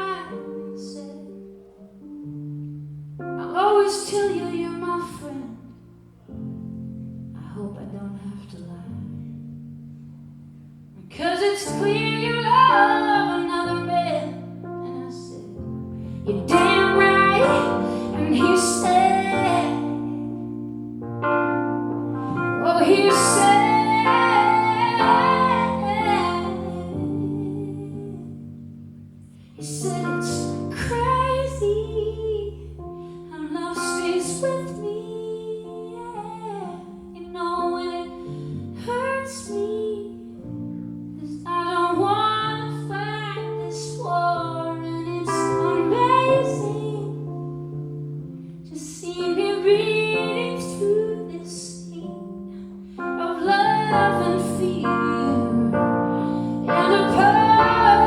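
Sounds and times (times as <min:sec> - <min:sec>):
woman singing a slow ballad: 0:00.0 - 0:01.6, 0:03.4 - 0:05.8, 0:07.3 - 0:09.4, 0:11.0 - 0:20.7, 0:22.3 - 0:28.6, 0:29.6 - 0:47.3, 0:48.7 - 0:58.0.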